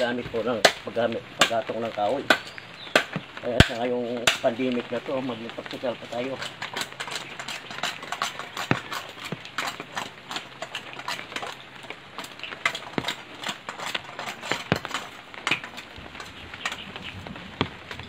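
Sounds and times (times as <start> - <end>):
rustling leaves: 0.0 - 18.0.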